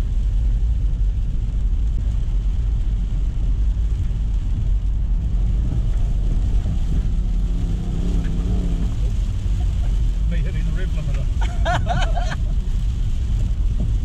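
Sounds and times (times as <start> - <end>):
engine rumbling and revving: 0.0 - 14.0.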